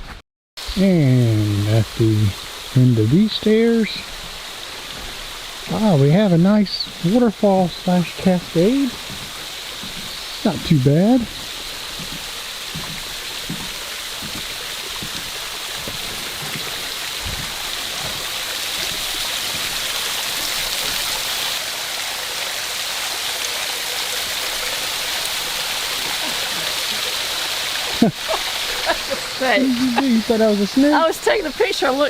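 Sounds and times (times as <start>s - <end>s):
water rushing over rocks: 0.6s - 32.0s.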